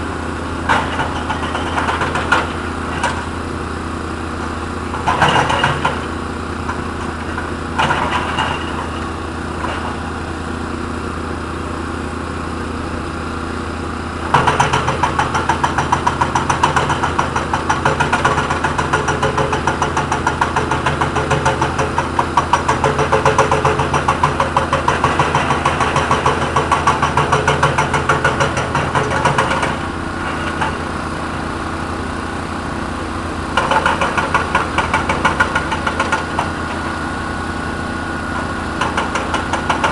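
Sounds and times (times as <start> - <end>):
excavator diesel engine running: 0.0 - 39.9
hydraulic hammer pounding: 0.6 - 3.5, 4.2 - 10.2, 14.2 - 31.6, 32.8 - 39.9.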